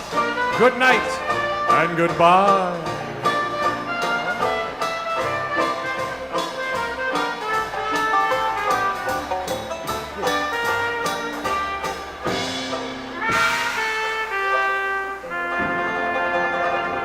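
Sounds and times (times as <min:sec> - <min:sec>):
jazz dance orchestra with brass: 0:00.0 - 0:17.0.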